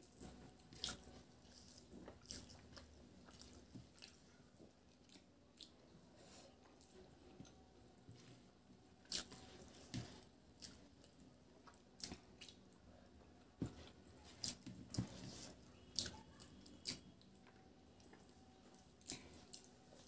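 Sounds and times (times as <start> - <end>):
chewing: 0.0 - 7.6, 8.2 - 12.8, 13.7 - 20.0.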